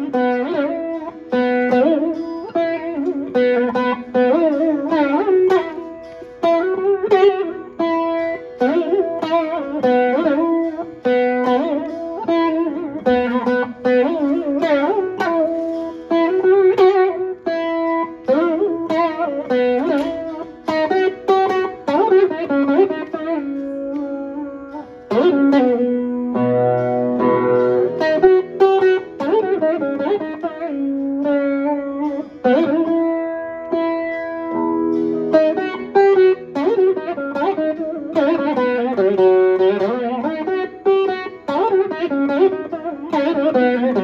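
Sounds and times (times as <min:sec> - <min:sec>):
plucked veena notes: 0:00.0 - 0:44.0.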